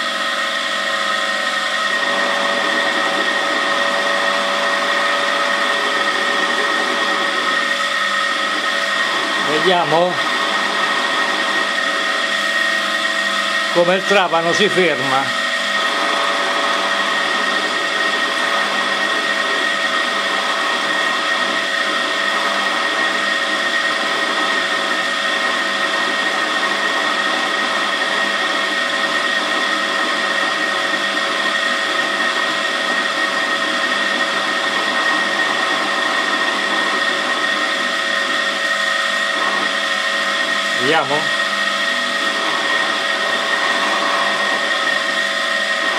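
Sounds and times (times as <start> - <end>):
pillar drill motor whining: 0.0 - 45.9.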